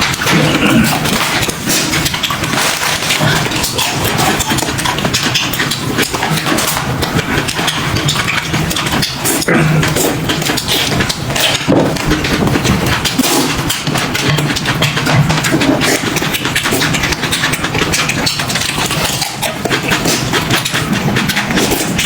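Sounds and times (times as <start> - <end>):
crunchy chewing: 0.0 - 22.0.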